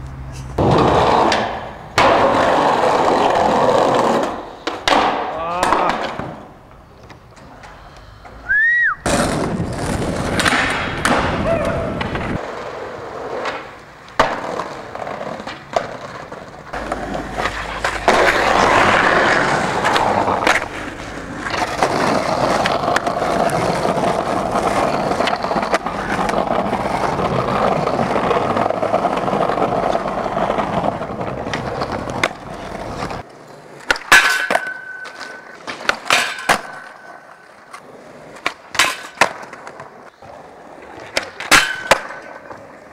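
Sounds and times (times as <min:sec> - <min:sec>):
skateboard wheels rolling on pavement: 0:00.0 - 0:42.9
skateboard popping and landing: 0:00.6 - 0:07.6, 0:09.0 - 0:42.9.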